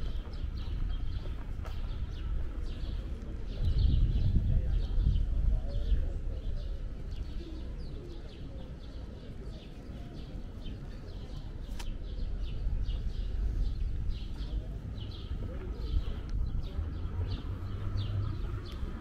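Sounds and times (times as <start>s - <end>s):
low rumble of city noise: 0.0s - 19.0s
small birds chirping: 0.0s - 19.0s.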